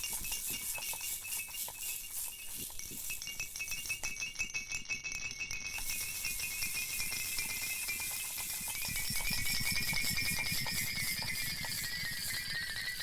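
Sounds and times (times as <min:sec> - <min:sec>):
shaker-like clicking rhythm: 0:00.0 - 0:13.0.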